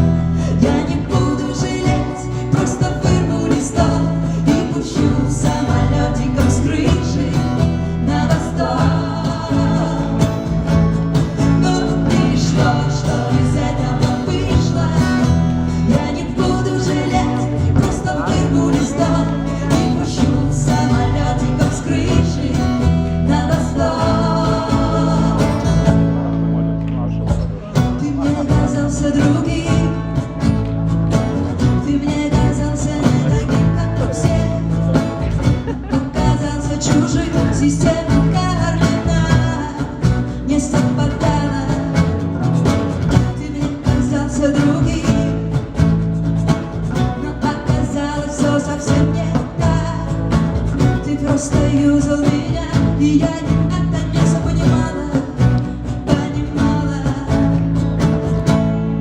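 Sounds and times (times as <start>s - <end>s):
woman singing: 0.0s - 26.1s, 27.9s - 30.6s, 31.3s - 46.1s, 46.8s - 58.2s
live band playing pop: 0.0s - 59.0s.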